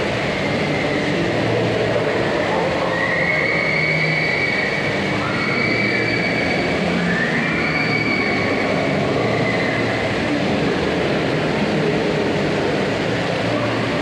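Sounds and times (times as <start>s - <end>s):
water jets rushing: 0.0s - 14.0s.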